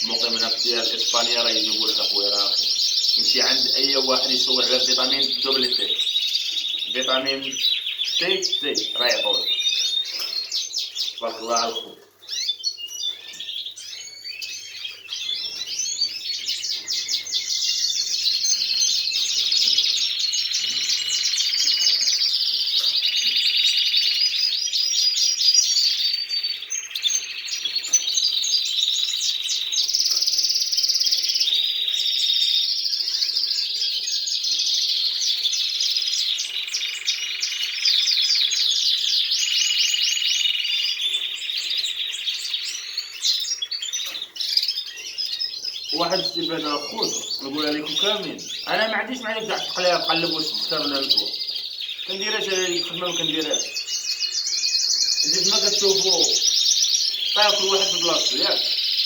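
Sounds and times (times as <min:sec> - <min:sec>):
canaries singing trills: 0:00.0 - 0:59.0.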